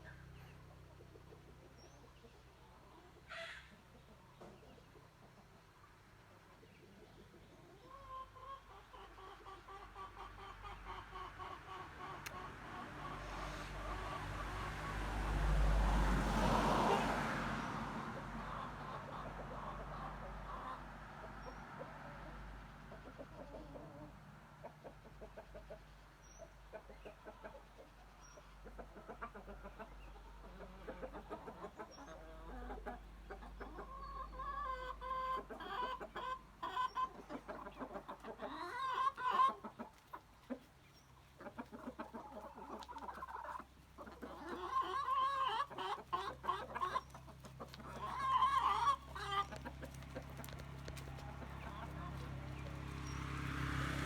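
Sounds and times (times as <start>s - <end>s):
chickens cackling: 0.0s - 54.0s
chickens clucking and squawking: 0.0s - 54.0s.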